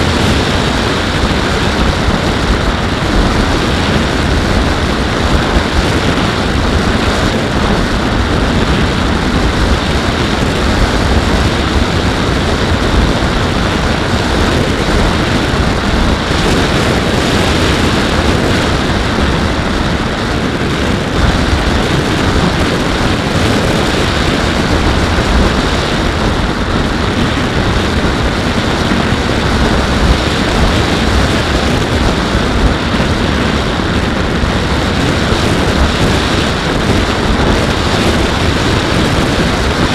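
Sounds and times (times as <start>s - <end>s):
propeller drone: 0.0s - 39.9s
rush of airflow: 0.0s - 39.9s
wind buffeting the microphone: 0.0s - 39.9s.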